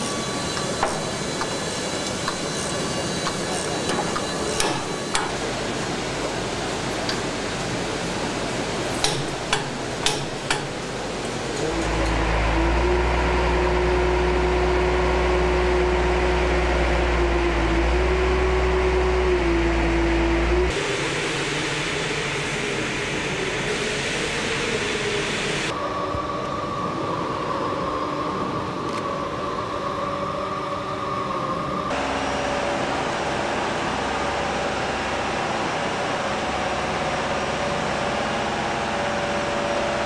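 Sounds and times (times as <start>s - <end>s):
jet engines with turbine whine: 0.0s - 40.0s.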